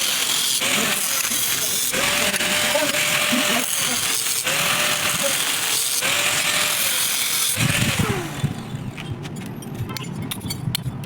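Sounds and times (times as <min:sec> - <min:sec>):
angle grinder grinding metal: 0:00.0 - 0:09.2.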